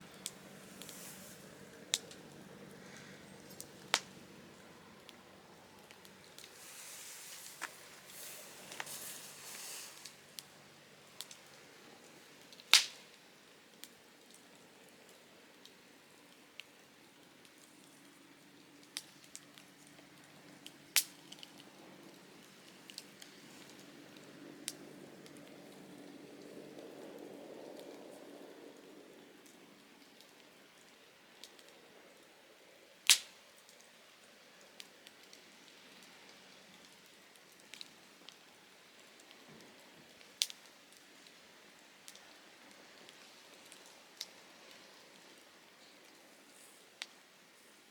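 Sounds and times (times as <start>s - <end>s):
campfire crackling and popping: 0.0s - 47.9s
soft steady fire hiss: 0.0s - 47.9s.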